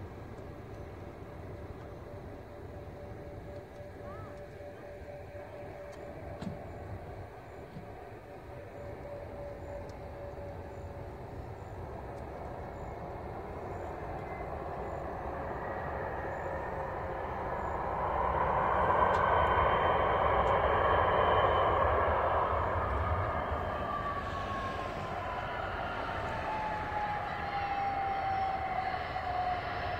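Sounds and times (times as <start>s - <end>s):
faint high whine: 0.0s - 29.9s
jet engines roaring: 0.0s - 29.9s.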